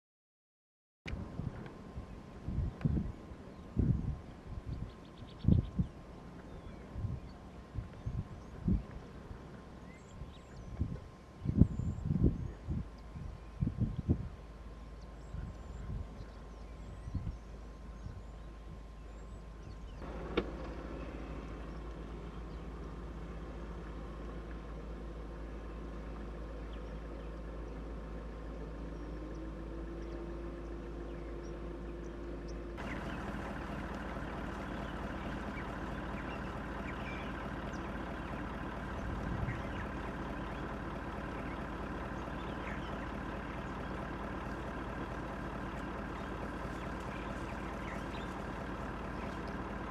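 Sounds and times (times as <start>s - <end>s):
vehicle engine idling: 1.1s - 49.9s.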